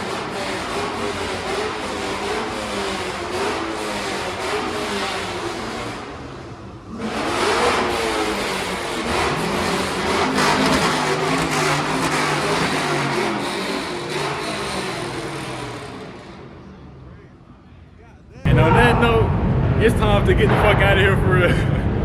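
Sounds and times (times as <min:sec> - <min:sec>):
car engines revving and accelerating: 0:00.0 - 0:22.0.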